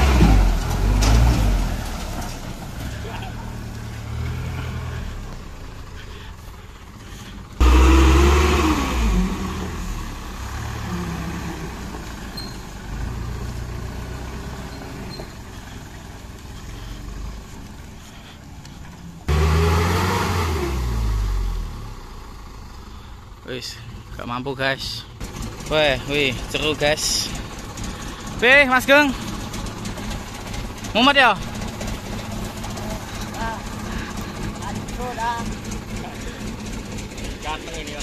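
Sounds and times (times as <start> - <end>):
truck engine labouring: 0.0 - 38.0.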